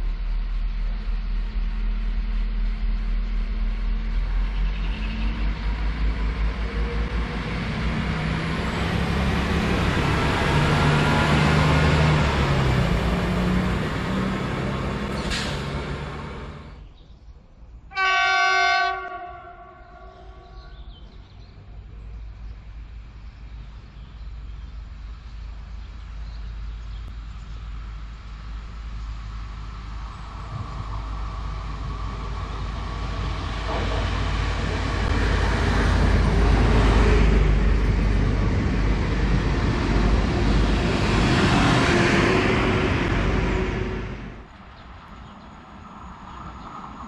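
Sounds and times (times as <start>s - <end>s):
electric train passing: 0.0s - 16.9s, 21.5s - 47.0s.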